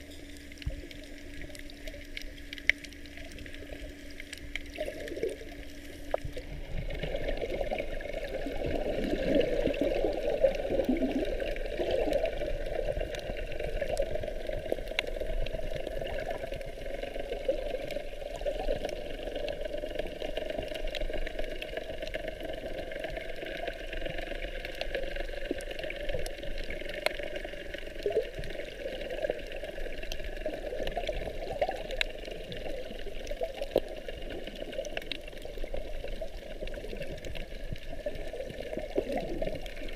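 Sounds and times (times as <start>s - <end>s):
muffled underwater water rushing: 0.0s - 39.9s.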